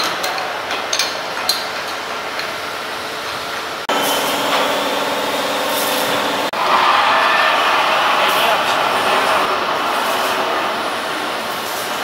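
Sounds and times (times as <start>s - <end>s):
factory machinery running: 0.0s - 12.0s.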